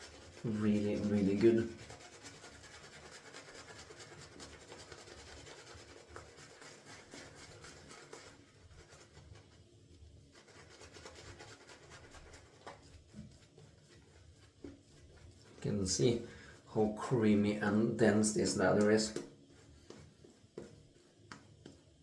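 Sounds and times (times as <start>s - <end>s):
shaving brush rubbing lather: 0.0s - 22.0s.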